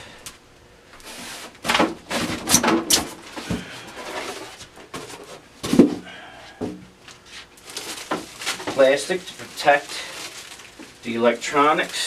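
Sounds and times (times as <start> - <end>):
styrofoam and plastic wrap rustling: 1.0 - 6.0, 7.2 - 12.0.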